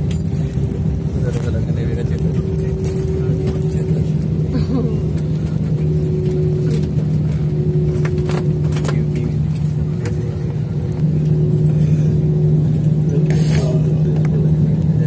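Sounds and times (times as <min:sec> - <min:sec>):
jet engine hum and rumble: 0:00.0 - 0:15.0.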